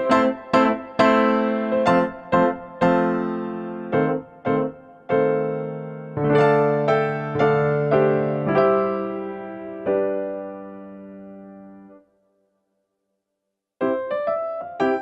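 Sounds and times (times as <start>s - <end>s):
piano music: 0.0s - 12.2s, 13.8s - 15.0s.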